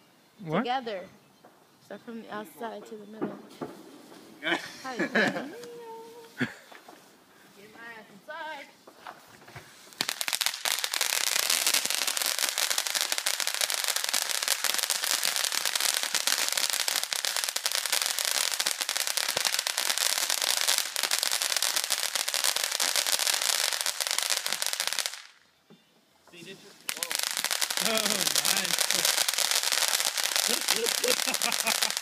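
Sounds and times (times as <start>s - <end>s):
firework fountain crackling hiss: 3.4s - 25.4s, 26.4s - 32.0s.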